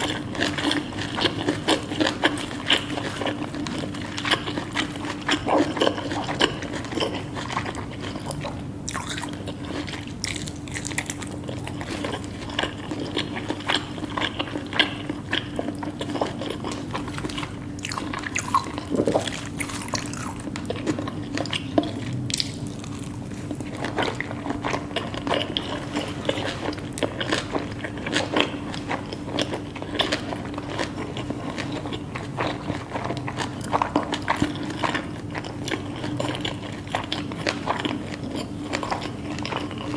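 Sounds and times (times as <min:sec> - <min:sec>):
chewing and crunching food: 0:00.0 - 0:39.9
faint steady hum: 0:00.0 - 0:39.9.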